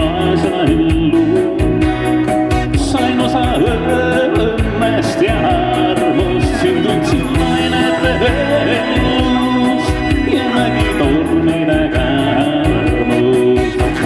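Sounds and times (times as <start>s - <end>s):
acoustic guitar: 0.0s - 14.0s
keyboard: 0.0s - 14.0s
man singing: 0.0s - 14.0s
steady beat: 0.0s - 14.0s.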